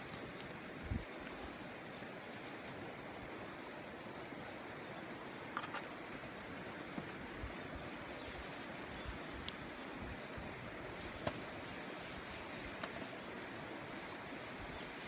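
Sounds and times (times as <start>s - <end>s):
steady rushing outdoor noise: 0.5s - 15.0s.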